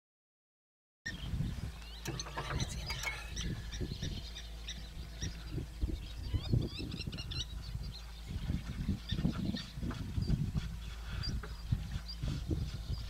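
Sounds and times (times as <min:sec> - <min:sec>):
birds chirping and calling: 0:01.1 - 0:13.0
steady low rumble: 0:01.2 - 0:13.0.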